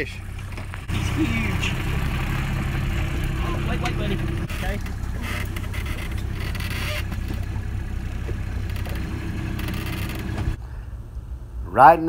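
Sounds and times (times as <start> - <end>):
boat engine idling: 0.0 - 10.6.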